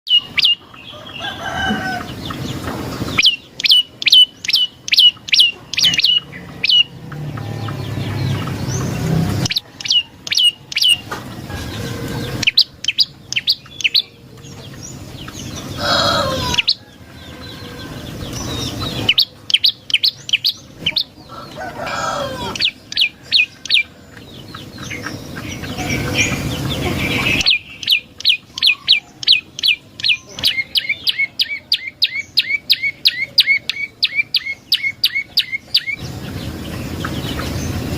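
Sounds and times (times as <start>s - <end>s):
bird sharp high chirps: 0.1s - 11.2s, 12.2s - 37.9s.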